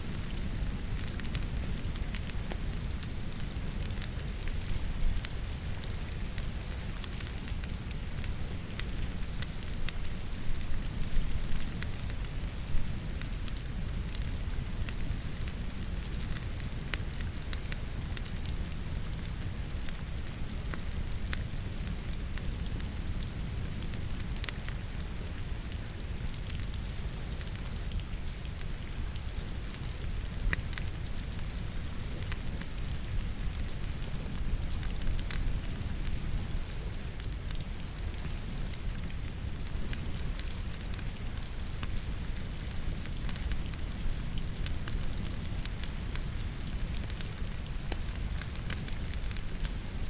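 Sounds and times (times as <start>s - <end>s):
logs crackling in fireplace: 0.0s - 50.0s
rain patter: 0.0s - 50.0s.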